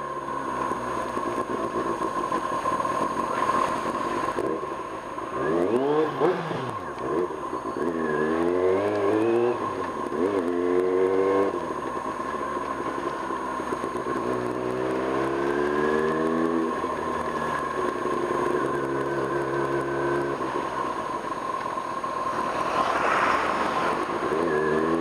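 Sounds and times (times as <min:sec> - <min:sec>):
motorcycle engine accelerating: 0:00.0 - 0:25.0
road noise: 0:00.0 - 0:25.0.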